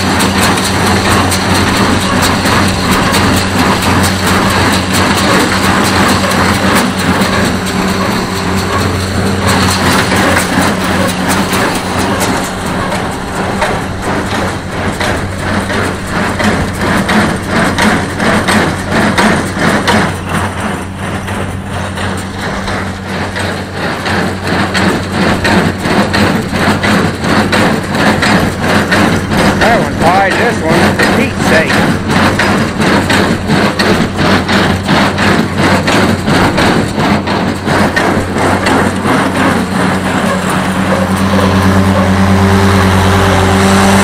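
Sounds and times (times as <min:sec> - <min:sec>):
baler clattering: 0:00.0 - 0:42.2
tractor engine drone: 0:00.0 - 0:44.0.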